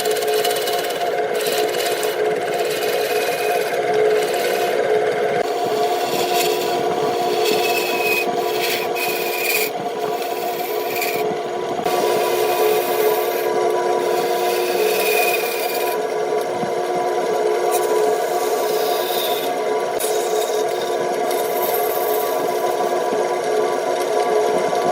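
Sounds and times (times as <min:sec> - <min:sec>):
tool scraping spinning wood: 0:00.0 - 0:24.9
wood lathe humming: 0:00.0 - 0:24.9.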